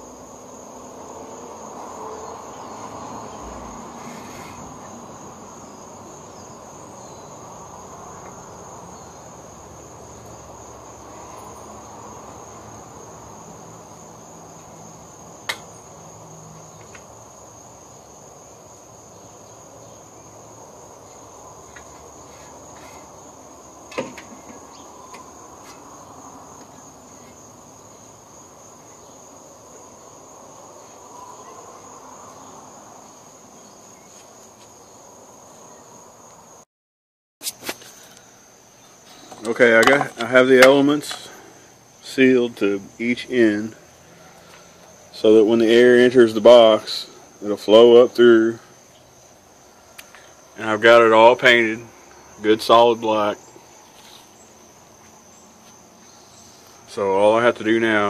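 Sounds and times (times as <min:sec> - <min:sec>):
crickets chirring: 0:00.0 - 0:36.7, 0:37.4 - 0:58.0.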